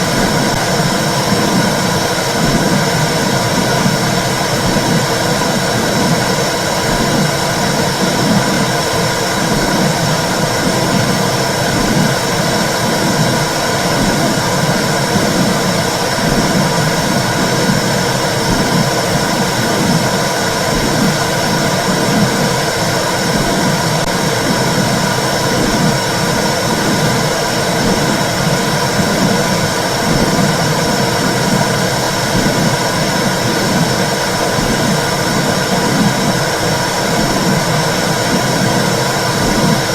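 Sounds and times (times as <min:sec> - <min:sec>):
low rhythmic heartbeat pulse: 0:00.0 - 0:39.9.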